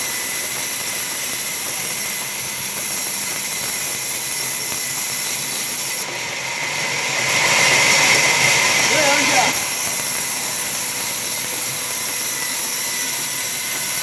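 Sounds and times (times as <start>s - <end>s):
band saw cutting wood: 0.0s - 14.0s.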